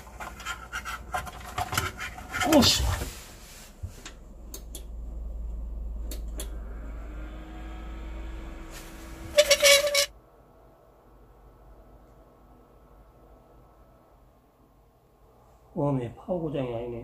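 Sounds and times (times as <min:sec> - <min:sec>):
computer fan whine: 0:00.0 - 0:17.0
low electrical hum: 0:00.0 - 0:17.0.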